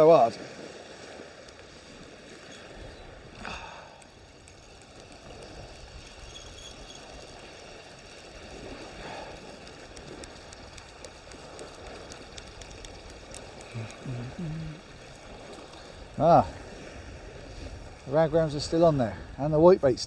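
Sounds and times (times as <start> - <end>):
shoreline water: 0.0 - 20.0
wind rumbling on microphone: 0.0 - 20.0.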